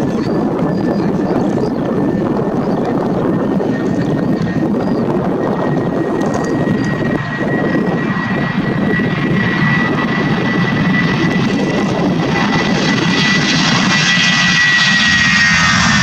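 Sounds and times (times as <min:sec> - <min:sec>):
jet engines roaring with whine: 0:00.0 - 0:16.0.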